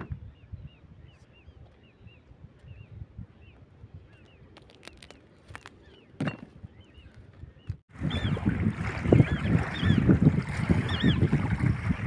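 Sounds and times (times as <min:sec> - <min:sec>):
wind buffeting microphone: 0:00.0 - 0:04.5, 0:06.6 - 0:12.0.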